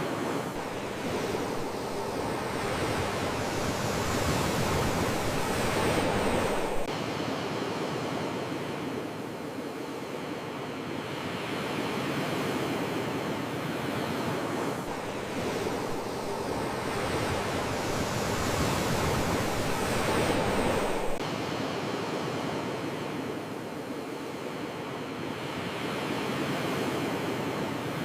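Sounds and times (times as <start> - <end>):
sea waves washing ashore: 0.0 - 28.0.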